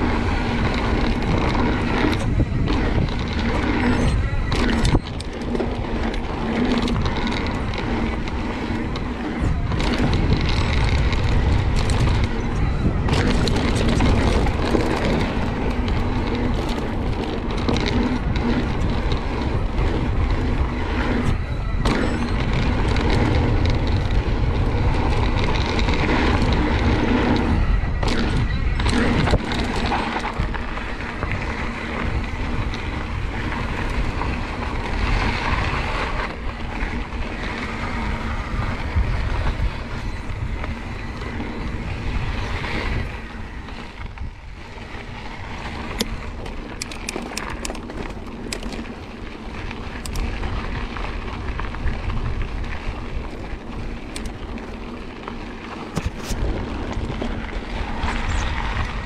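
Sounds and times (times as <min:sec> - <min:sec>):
bike tyres rolling on dirt: 0:00.0 - 0:59.0
sharp bike clicks: 0:00.0 - 0:59.0
wind buffeting microphone: 0:00.0 - 0:59.0.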